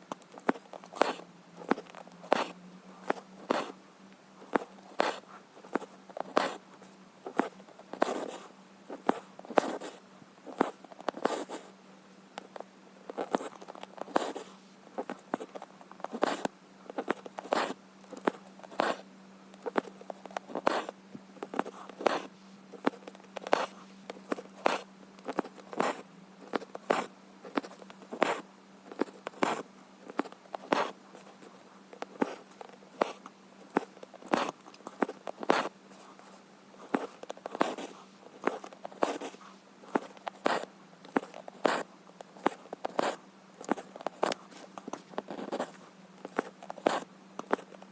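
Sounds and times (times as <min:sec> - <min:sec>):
faint low hum: 0:00.0 - 0:47.9
needle and thread rasping through fabric: 0:00.2 - 0:03.8, 0:04.4 - 0:06.6, 0:07.3 - 0:11.7, 0:12.4 - 0:47.9.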